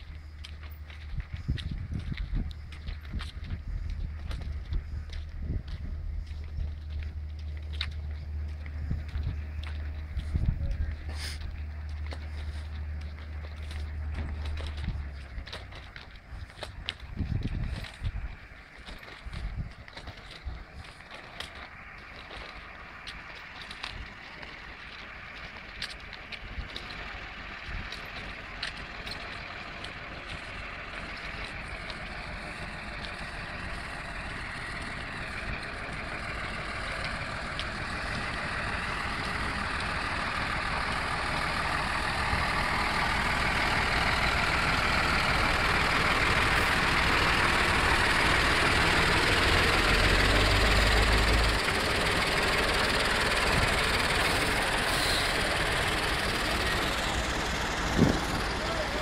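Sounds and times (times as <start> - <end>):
vacuum truck engine and pump drone: 0.0 - 59.0.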